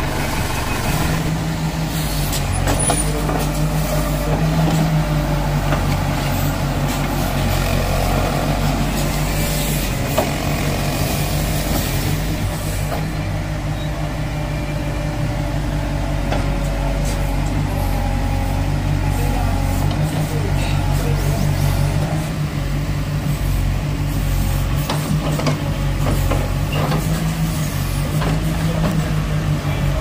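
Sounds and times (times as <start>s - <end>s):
diesel engines humming: 0.0s - 30.0s.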